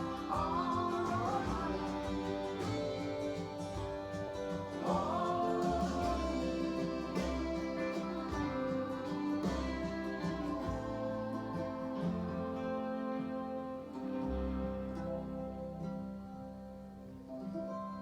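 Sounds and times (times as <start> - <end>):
guitar music from vinyl record: 0.0 - 18.0.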